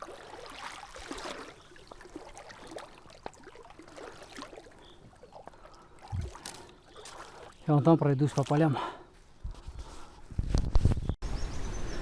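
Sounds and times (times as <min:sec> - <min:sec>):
water sloshing and splashing: 0:00.0 - 0:10.1.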